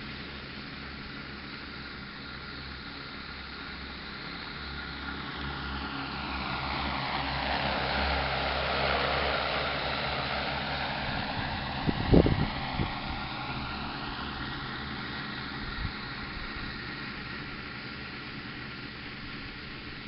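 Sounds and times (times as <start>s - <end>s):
drone rotors rushing: 0.0s - 20.0s
steady low hum: 0.0s - 20.0s.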